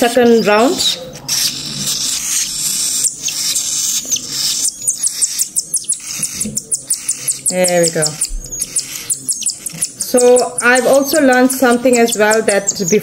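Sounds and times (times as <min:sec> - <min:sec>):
cockatiel chicks begging calls: 0:00.2 - 0:13.0.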